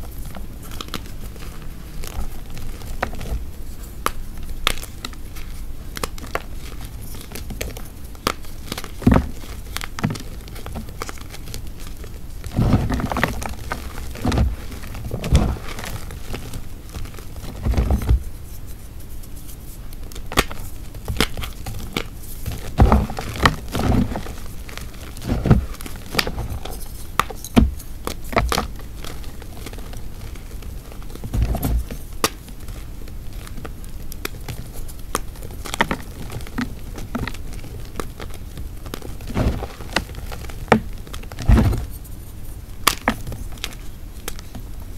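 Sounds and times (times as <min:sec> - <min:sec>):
chalk crackling and crunching: 0:00.0 - 0:44.9.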